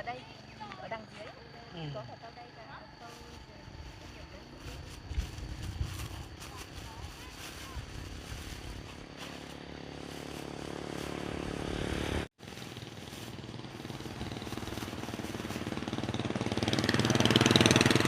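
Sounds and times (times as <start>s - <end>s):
motorbike engine running: 3.3s - 18.0s.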